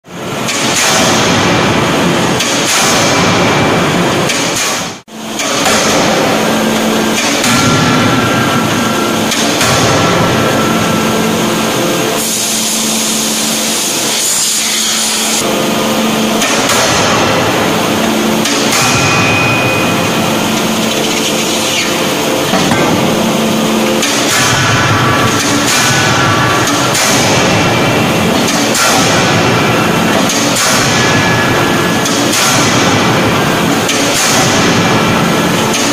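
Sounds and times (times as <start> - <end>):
forge machine noise: 0.0 - 35.9.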